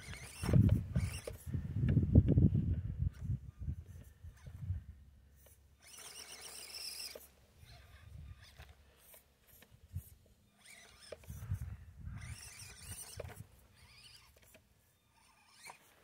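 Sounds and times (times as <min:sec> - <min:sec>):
small electric motor and gears whining: 0:00.0 - 0:16.0.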